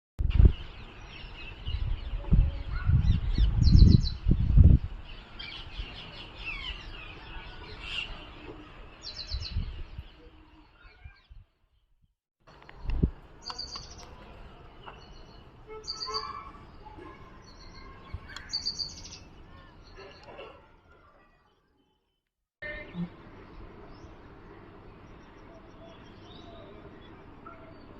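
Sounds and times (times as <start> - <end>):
small birds chirping: 0.4 - 11.9, 12.5 - 27.9.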